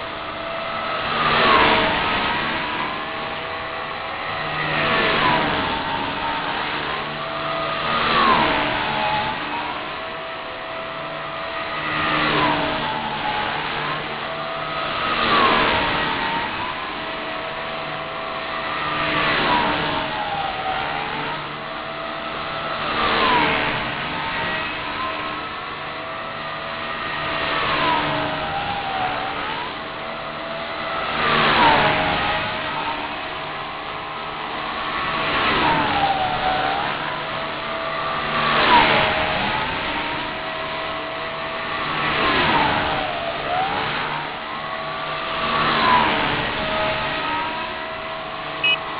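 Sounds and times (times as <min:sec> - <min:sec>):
rc helicopter rotor whine: 0:00.0 - 0:48.9.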